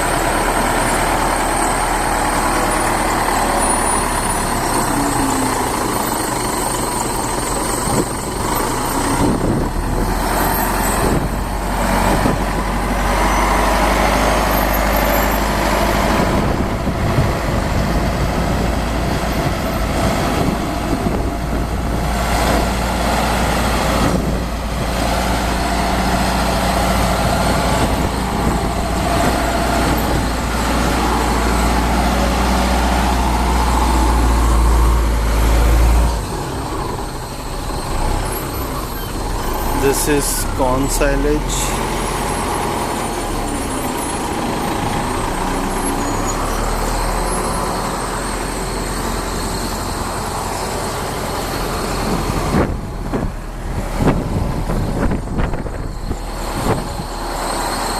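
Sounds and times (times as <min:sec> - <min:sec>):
heavy engine droning: 0:00.0 - 0:57.9.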